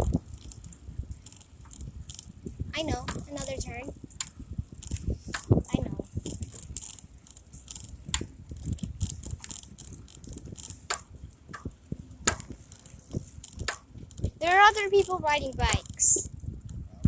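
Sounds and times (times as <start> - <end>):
bicycle parts rattling: 0.0 - 17.0.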